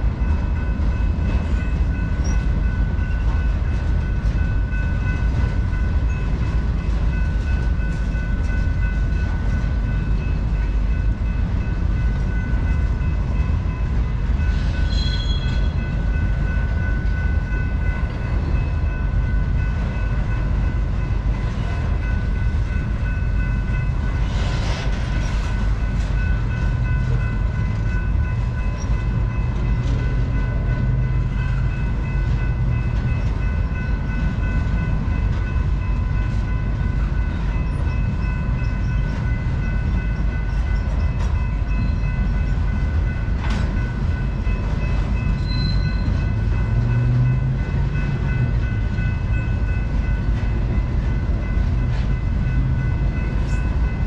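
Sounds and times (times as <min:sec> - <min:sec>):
freight train rumbling past: 0:00.0 - 0:54.0
train wheels clacking: 0:00.0 - 0:54.0.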